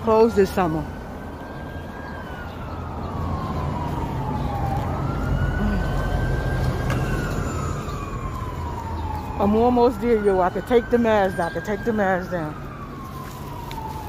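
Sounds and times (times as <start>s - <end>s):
ambulance siren wailing: 0.0s - 14.0s
street traffic rumble: 0.0s - 14.0s.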